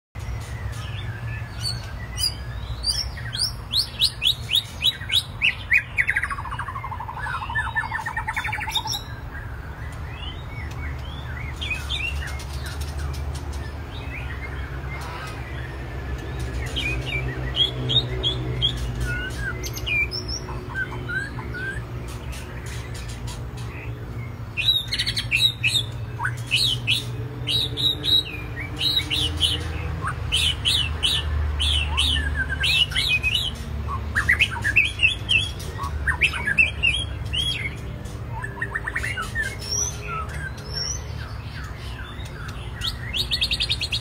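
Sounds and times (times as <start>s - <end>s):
birds singing and calling: 0.2s - 44.0s.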